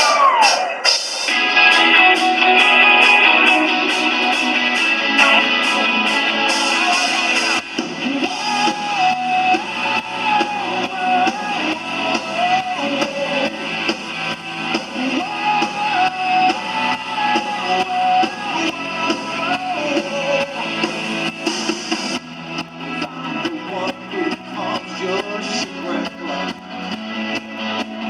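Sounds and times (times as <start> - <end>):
steady drum beat: 0.0 - 25.7
rock guitars: 0.0 - 28.0.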